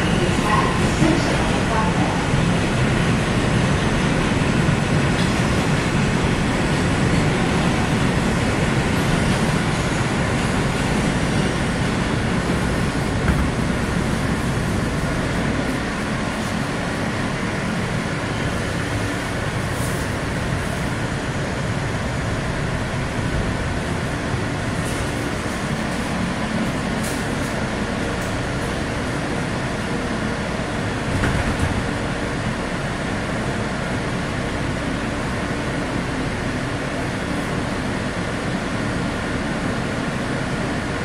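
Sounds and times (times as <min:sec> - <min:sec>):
subway car running on rails: 0:00.0 - 0:41.0.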